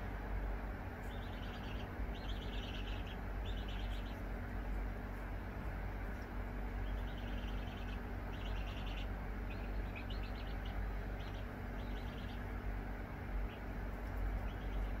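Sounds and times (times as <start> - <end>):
low steady hum: 0.0 - 15.0
chick peeping: 1.0 - 4.8, 6.0 - 12.7, 13.3 - 15.0.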